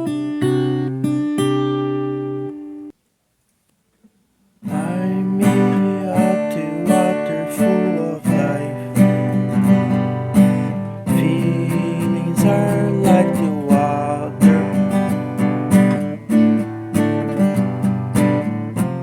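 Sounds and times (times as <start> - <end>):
acoustic guitar strumming: 0.0 - 2.9, 4.6 - 19.0.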